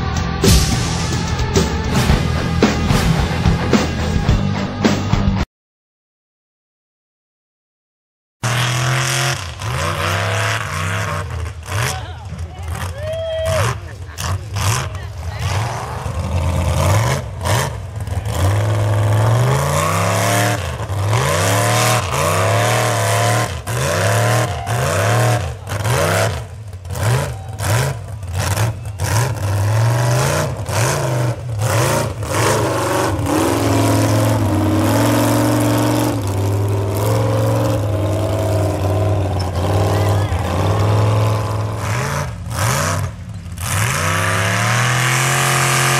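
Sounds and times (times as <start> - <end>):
truck engine revving: 0.0 - 5.4, 8.4 - 45.9.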